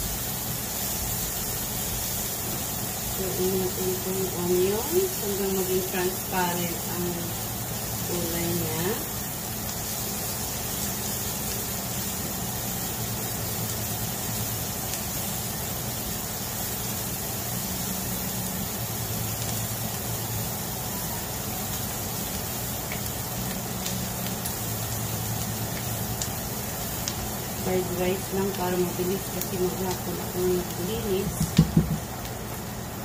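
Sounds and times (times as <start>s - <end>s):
low fan hum: 0.0s - 33.0s
vegetables sizzling in a frying pan: 0.0s - 33.0s.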